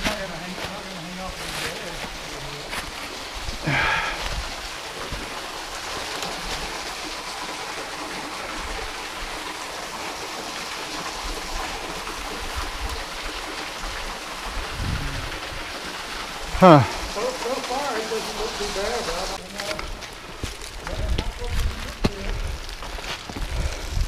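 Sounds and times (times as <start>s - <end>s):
stream water rushing: 0.0s - 20.8s.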